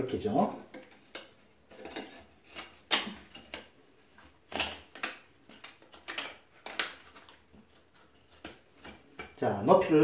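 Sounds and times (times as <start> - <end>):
pipe fittings clicking and knocking: 0.6 - 3.8, 4.5 - 9.4.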